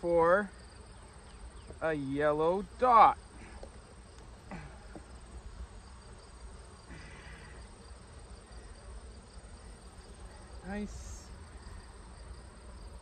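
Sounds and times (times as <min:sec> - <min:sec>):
honeybees humming: 0:00.0 - 0:13.0
insect chirping: 0:00.0 - 0:13.0.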